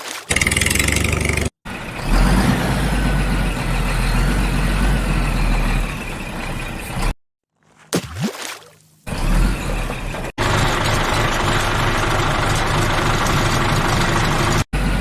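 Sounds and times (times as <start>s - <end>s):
vehicle engine running: 0.3s - 7.2s, 9.1s - 15.0s.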